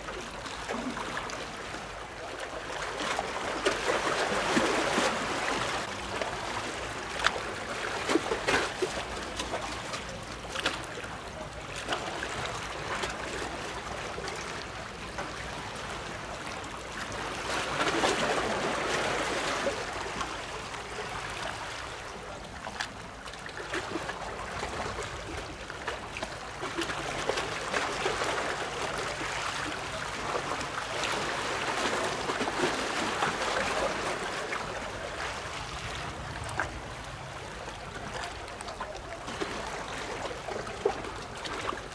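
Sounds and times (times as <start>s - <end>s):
small waves lapping: 0.0s - 41.9s.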